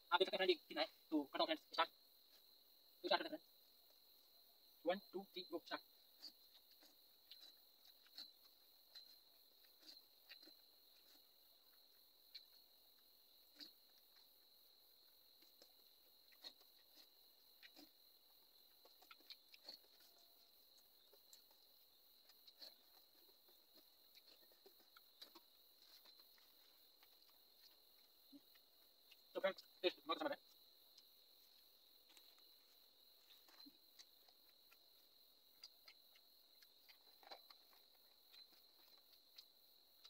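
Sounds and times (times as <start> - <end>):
man eating with clicks and smacks: 0.3 - 40.0
chewing: 5.1 - 40.0.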